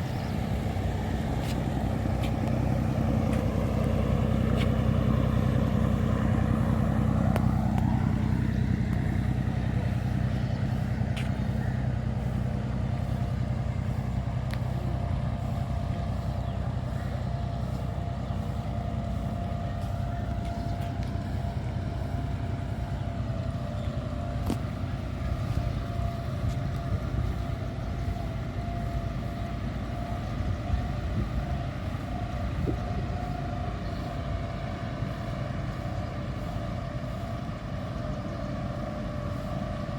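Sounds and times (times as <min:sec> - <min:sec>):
engine humming: 0:00.0 - 0:39.9
thin steady whine: 0:00.0 - 0:39.9.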